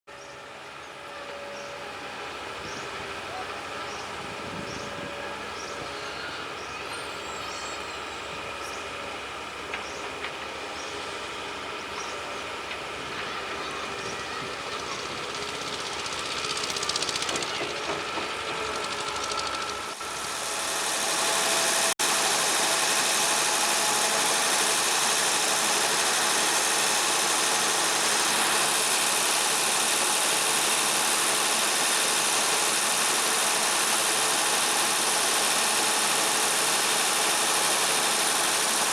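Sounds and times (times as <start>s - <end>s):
excavator diesel engine running: 0.2s - 38.9s.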